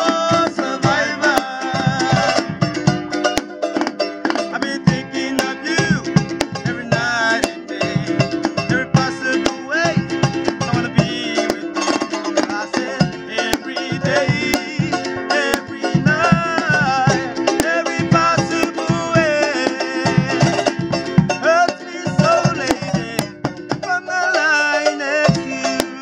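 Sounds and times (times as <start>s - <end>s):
men singing loudly: 0.0s - 2.8s, 4.5s - 26.0s
drum beat: 0.0s - 26.0s
ukuleles strumming: 0.0s - 26.0s.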